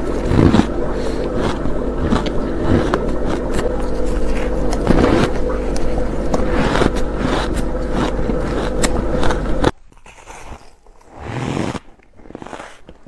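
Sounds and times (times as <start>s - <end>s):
biting and crunching ice: 0.0s - 13.0s
steady hum: 0.0s - 13.0s.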